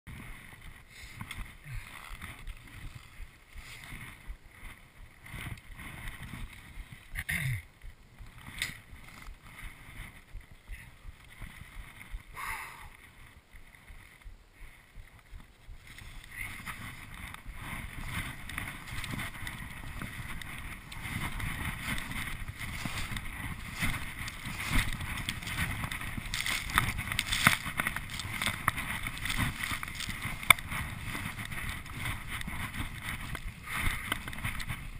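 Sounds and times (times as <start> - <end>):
skis swishing through snow: 0.1 - 7.1, 8.3 - 34.9
wind on microphone: 0.1 - 34.9.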